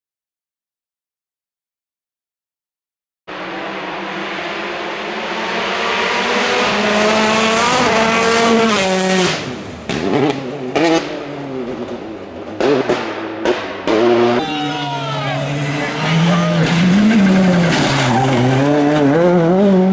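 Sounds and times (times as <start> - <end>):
rally car engine at full throttle: 3.3 - 19.9.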